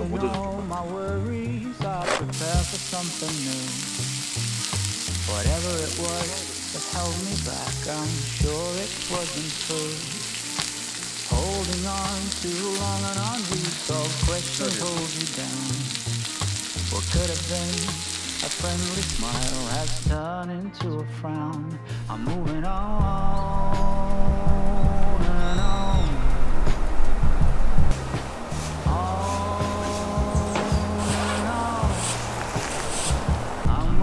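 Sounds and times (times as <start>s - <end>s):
food sizzling while frying: 0.0s - 20.2s, 26.6s - 34.0s
background music with bass line: 0.0s - 34.0s.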